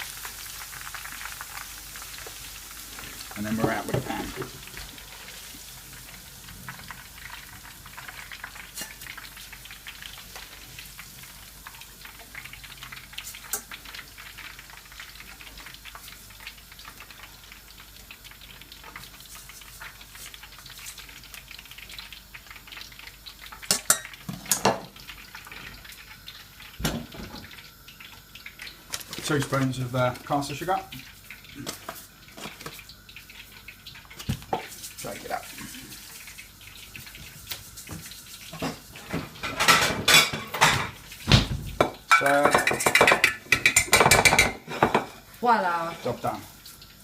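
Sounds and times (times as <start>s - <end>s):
greens sizzling in hot oil: 0.0s - 47.0s.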